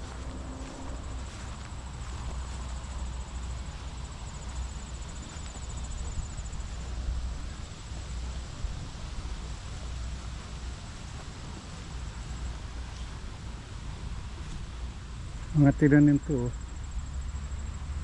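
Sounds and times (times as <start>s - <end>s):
wind rumble on microphone: 0.0s - 15.6s
insects trilling: 0.0s - 18.0s.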